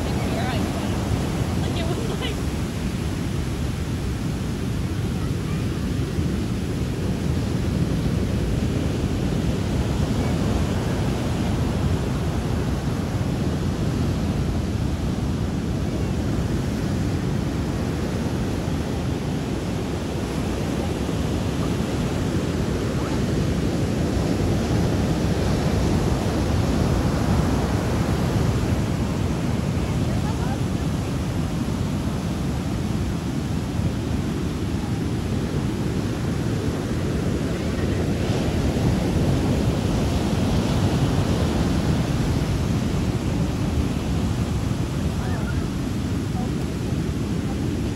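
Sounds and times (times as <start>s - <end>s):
sea waves breaking on a beach: 0.0s - 47.9s.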